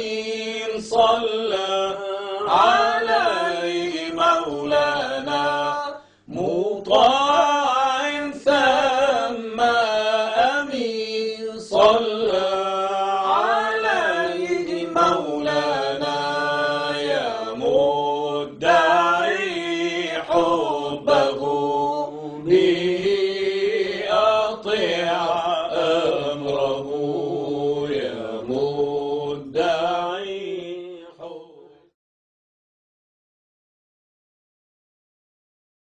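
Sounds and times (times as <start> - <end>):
person singing devotional song: 0.0 - 32.0.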